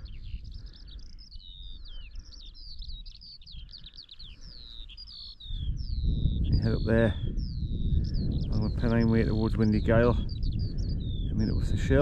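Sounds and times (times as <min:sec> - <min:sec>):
songbird singing: 0:00.0 - 0:12.0
wind on microphone: 0:00.0 - 0:12.0.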